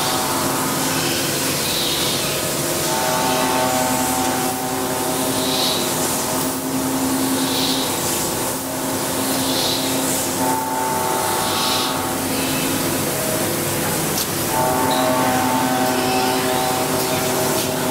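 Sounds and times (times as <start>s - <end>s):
machine noise: 0.0s - 17.9s.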